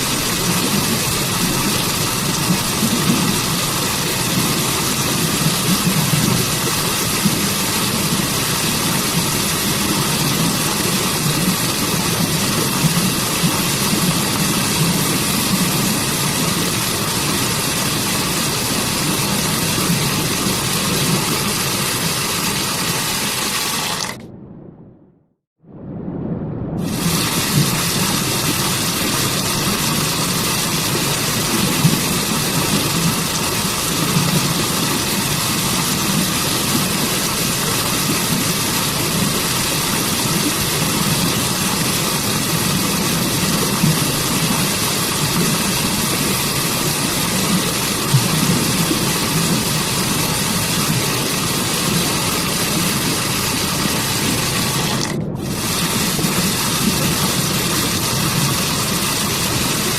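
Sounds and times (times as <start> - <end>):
waterfall and stream rushing: 0.0 - 24.2, 26.9 - 59.9.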